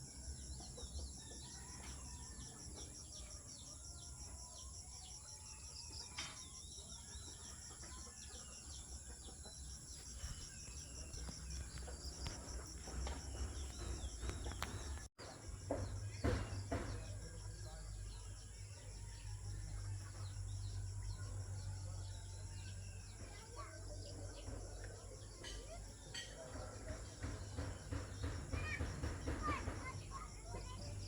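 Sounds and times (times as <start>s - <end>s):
bird chirps: 0.0s - 31.0s
insect drone with pulsing trill: 0.0s - 31.0s.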